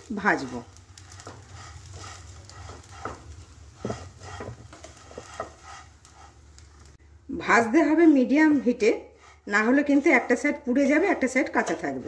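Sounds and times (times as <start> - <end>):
spatula scraping pan: 0.1 - 6.7, 8.2 - 12.0.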